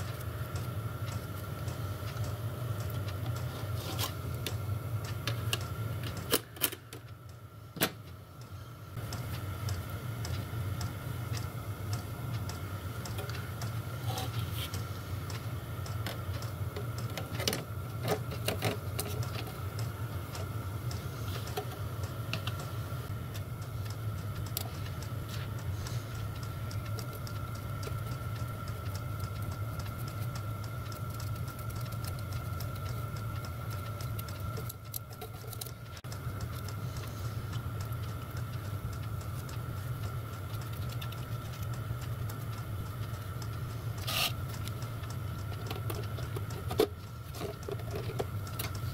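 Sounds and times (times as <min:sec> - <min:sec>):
workshop hum: 0:00.0 - 0:48.9.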